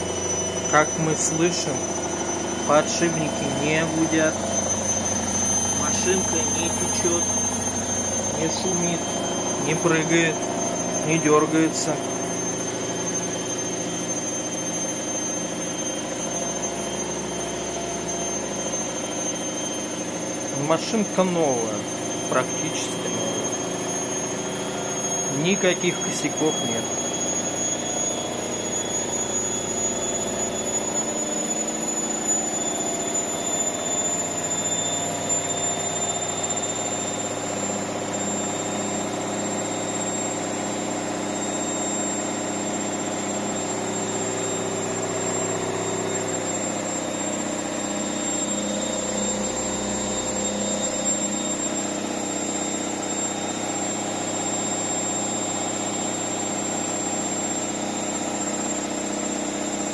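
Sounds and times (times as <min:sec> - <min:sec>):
washing machine spin cycle: 0:00.0 - 0:59.9.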